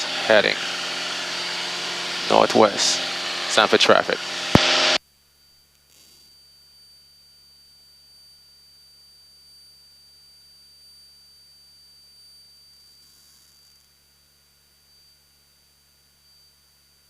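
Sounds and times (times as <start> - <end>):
thin high-pitched whine: 0.0 - 17.0.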